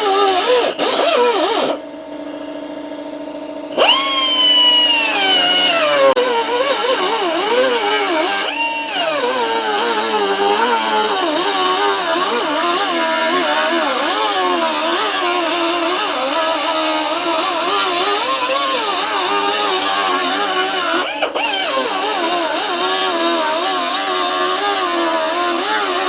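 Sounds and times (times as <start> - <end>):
power tool cutting metal: 0.0 - 1.9, 3.4 - 26.0.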